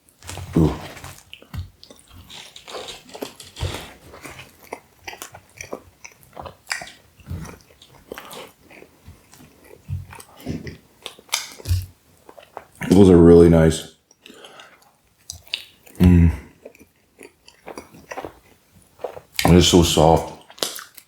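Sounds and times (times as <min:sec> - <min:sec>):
person chewing with wet clicks: 0:01.0 - 0:13.0, 0:14.0 - 0:19.6, 0:20.4 - 0:21.0.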